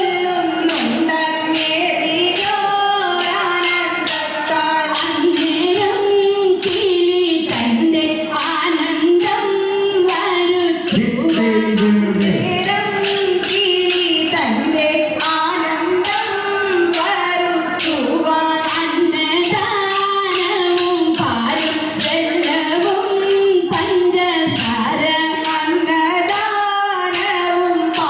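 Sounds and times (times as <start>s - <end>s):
women singing folk song: 0.0s - 28.0s.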